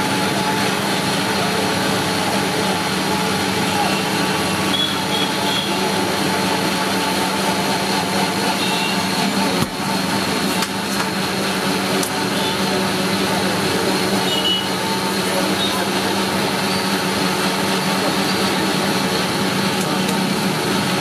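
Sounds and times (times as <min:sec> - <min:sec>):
faint voices: 0:00.0 - 0:21.0.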